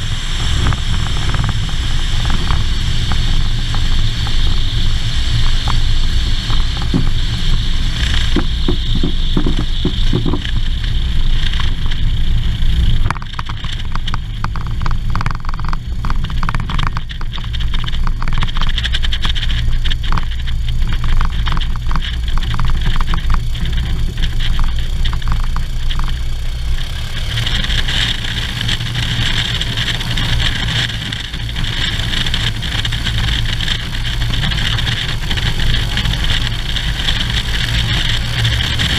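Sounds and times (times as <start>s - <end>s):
light aircraft engine: 0.0s - 38.9s
wheels knocking and rattling: 0.0s - 38.9s
wind noise: 0.0s - 38.9s.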